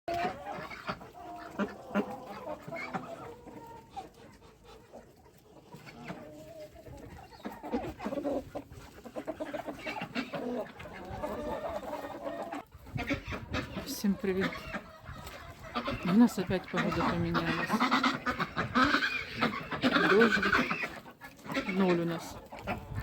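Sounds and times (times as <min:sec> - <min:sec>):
chickens clucking: 0:00.1 - 0:23.0.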